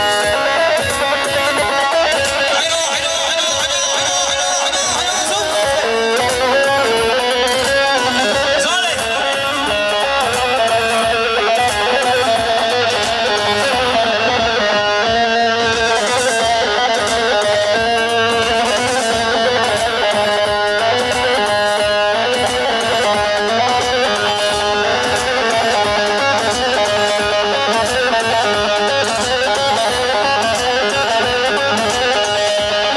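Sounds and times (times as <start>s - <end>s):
amplified plucked string melody: 0.0s - 32.9s.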